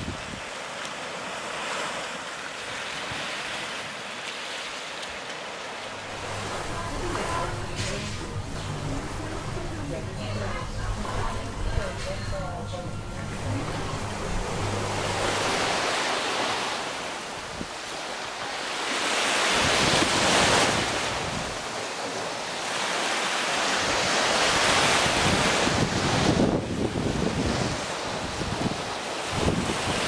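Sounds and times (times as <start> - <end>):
small waves breaking on beach: 0.0 - 12.1, 13.0 - 30.0.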